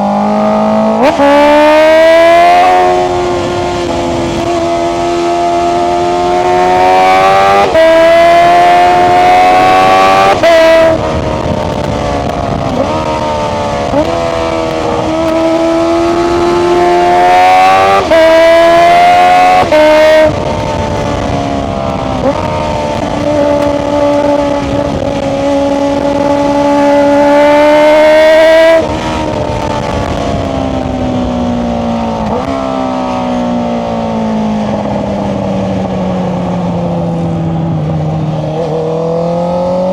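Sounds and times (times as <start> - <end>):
motorcycle engine revving hard: 0.0 - 36.2, 36.9 - 39.9.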